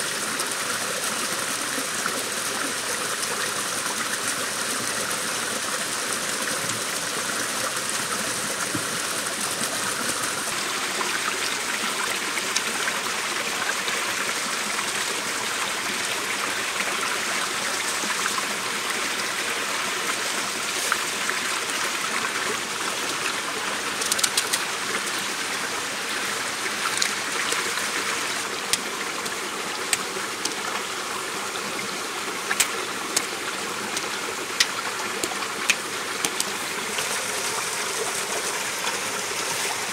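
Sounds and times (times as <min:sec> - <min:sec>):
stream and small waterfall: 0:00.0 - 0:39.9.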